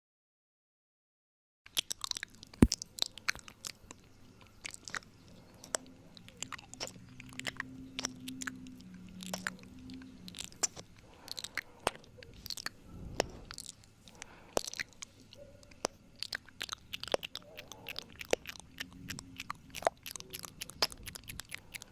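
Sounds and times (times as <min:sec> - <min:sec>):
faint low hum: 0:01.7 - 0:21.9
wet mouth clicks and smacks: 0:01.7 - 0:21.9.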